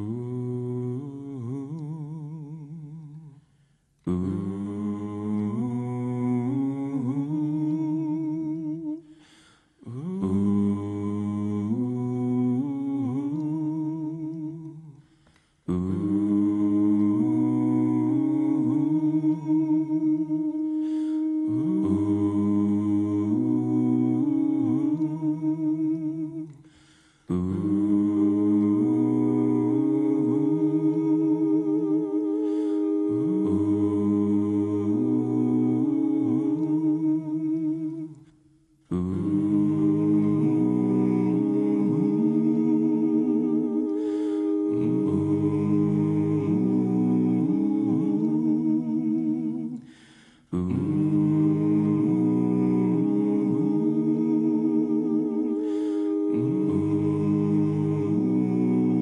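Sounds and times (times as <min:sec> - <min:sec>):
layered a cappella humming: 0:00.0 - 0:59.0.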